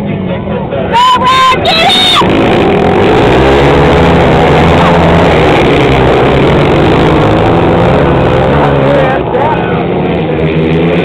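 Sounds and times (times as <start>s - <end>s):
racing motorcycle engines droning: 0.0s - 11.0s.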